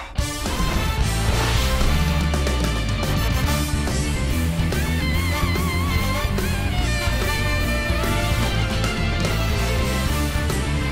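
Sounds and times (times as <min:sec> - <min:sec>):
rock music: 0:00.0 - 0:10.9.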